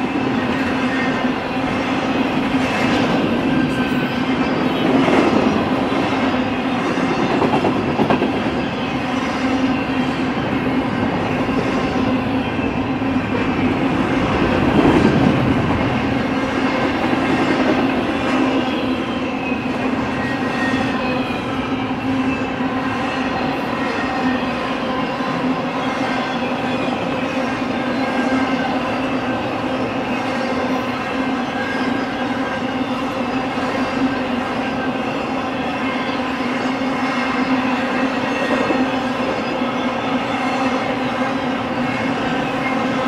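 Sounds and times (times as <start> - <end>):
freight train rumble: 0.0 - 43.0.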